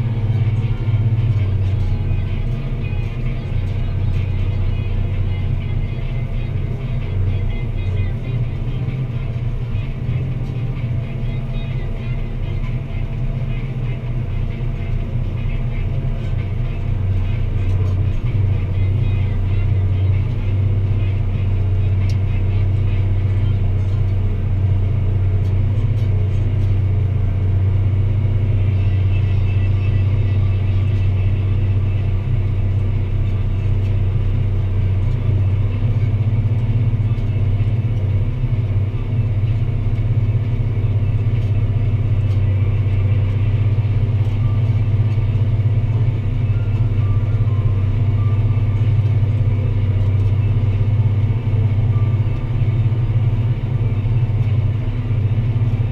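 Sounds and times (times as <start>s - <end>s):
tractor engine droning: 0.0s - 55.9s.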